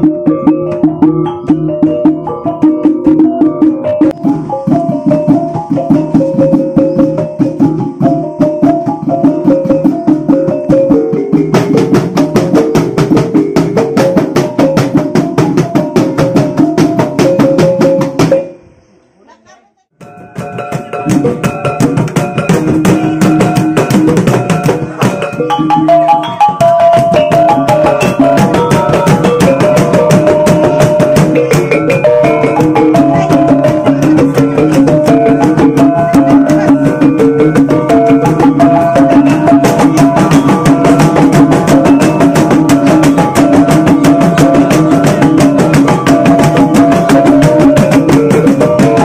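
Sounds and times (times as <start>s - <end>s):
wooden drums beating rapidly: 0.0s - 18.5s, 20.0s - 49.0s
small gongs playing fast melody: 0.0s - 18.6s, 20.0s - 49.0s.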